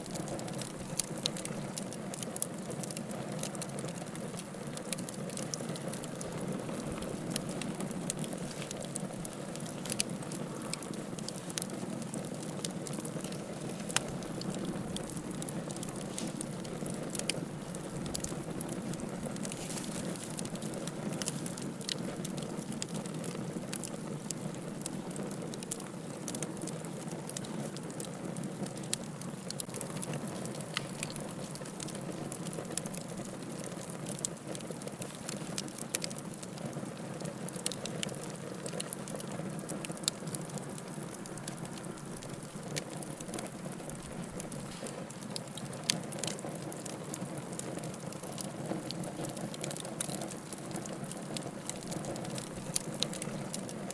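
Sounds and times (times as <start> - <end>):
fire burning: 0.0 - 53.9
firewood crackling and popping: 0.0 - 53.9.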